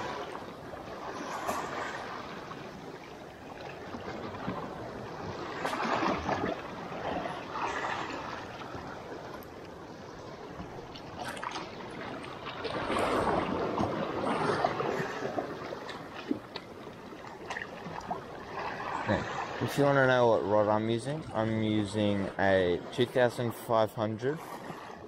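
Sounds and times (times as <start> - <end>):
water trickling and splashing: 0.0 - 23.7
small waves lapping on rocks: 0.0 - 25.0.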